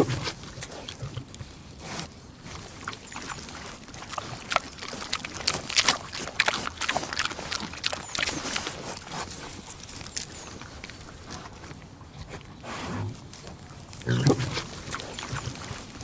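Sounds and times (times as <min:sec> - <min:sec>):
pig chomping and crunching: 0:00.0 - 0:16.0.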